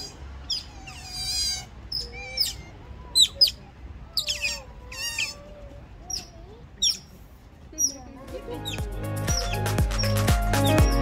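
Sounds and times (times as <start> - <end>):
otters chirping and squeaking: 0.0 - 11.0.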